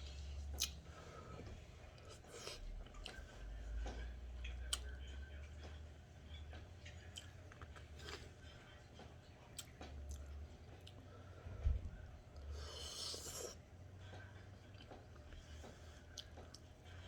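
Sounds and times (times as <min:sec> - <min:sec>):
person chewing food: 0:00.0 - 0:05.8, 0:06.6 - 0:11.1, 0:12.4 - 0:17.0
low steady hum: 0:00.0 - 0:17.0.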